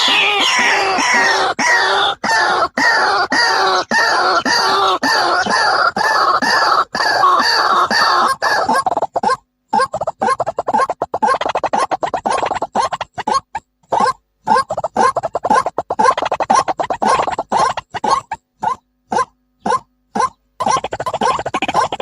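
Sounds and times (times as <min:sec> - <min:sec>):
waterhen calling: 0:00.0 - 0:18.4, 0:19.2 - 0:22.0.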